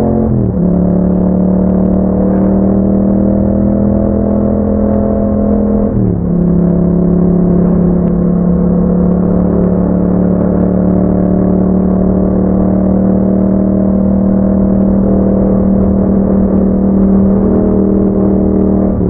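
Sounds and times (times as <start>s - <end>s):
motorcycle engine riding: 0.0s - 19.0s.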